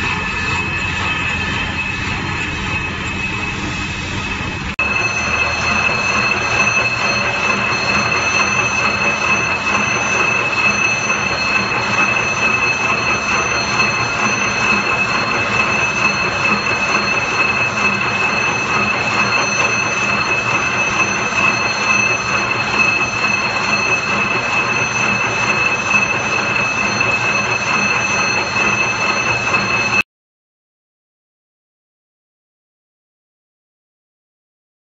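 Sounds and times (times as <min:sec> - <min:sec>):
high-pitched whine: 0:00.0 - 0:30.0.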